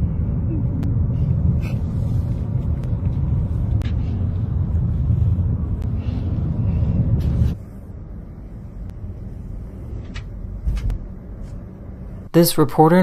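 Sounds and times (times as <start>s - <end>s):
car driving rumble: 0.0s - 12.3s.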